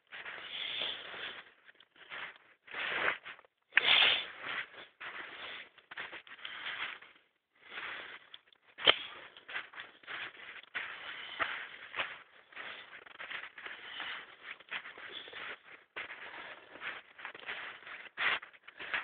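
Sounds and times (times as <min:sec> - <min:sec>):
footsteps crunching in snow: 0:00.0 - 0:19.0.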